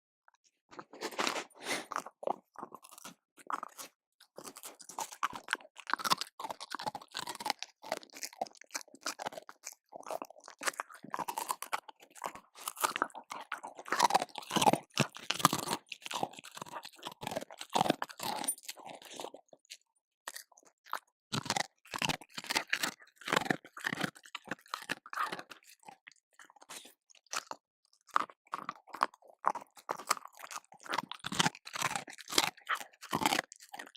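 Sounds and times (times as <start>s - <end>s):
dog chewing and crunching food: 0.7s - 33.9s.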